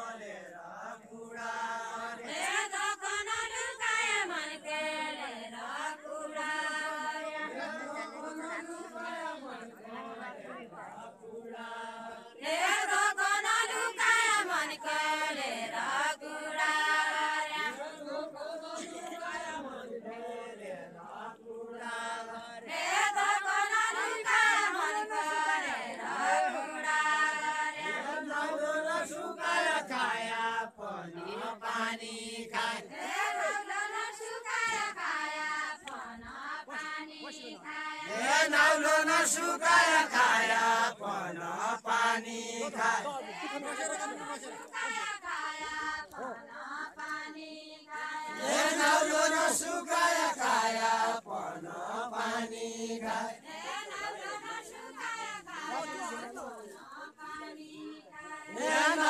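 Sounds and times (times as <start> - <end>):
women singing folk song: 0.0 - 59.0.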